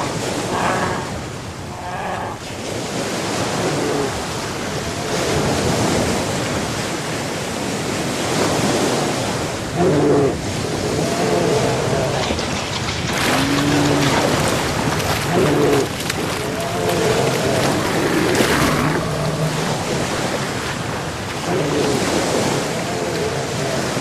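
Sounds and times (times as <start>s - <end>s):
sea waves: 0.0s - 24.0s
wind buffeting microphone: 0.0s - 24.0s.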